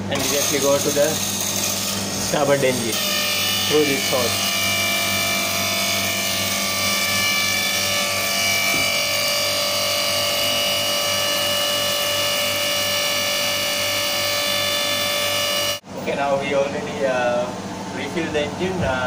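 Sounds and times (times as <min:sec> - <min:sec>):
pump humming with pulse: 0:00.0 - 0:16.0.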